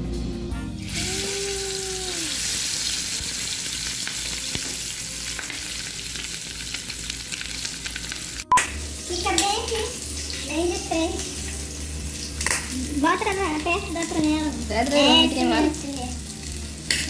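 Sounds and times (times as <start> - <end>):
chicken sizzling in hot oil: 0.5 - 17.0.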